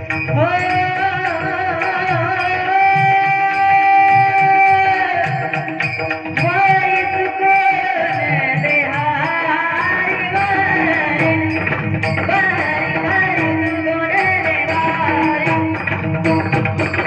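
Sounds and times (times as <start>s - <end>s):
high singing voice: 0.0s - 16.5s
steady drum rhythm: 0.0s - 17.0s.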